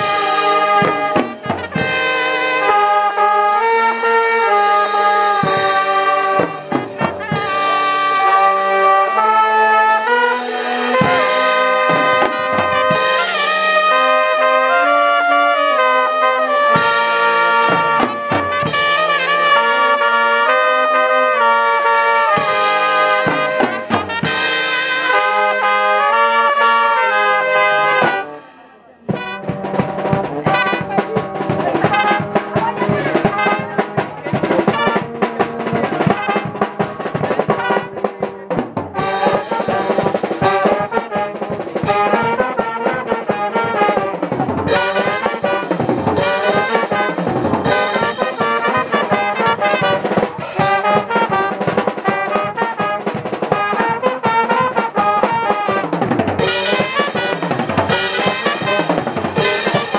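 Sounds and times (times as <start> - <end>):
street band playing: 0.0 - 59.9.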